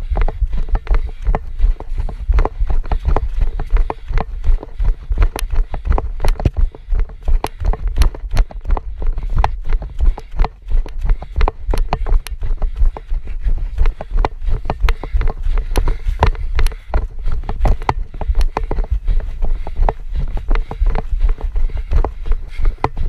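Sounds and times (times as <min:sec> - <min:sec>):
running footsteps on dirt trail: 0:00.0 - 0:23.0.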